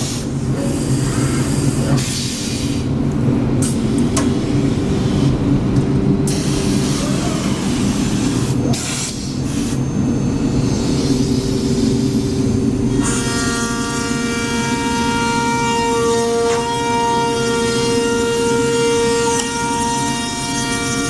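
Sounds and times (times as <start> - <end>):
router machine drone: 3.4 - 21.0.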